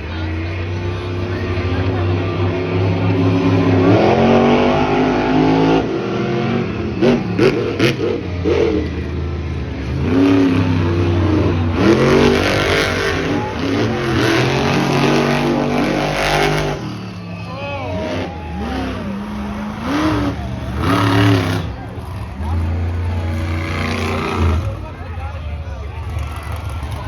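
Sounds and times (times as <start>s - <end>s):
monster truck engines revving: 0.0s - 27.0s.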